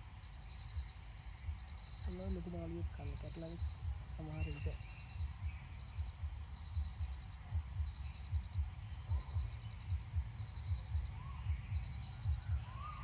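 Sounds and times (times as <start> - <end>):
wind buffeting microphone: 0.7 - 13.0.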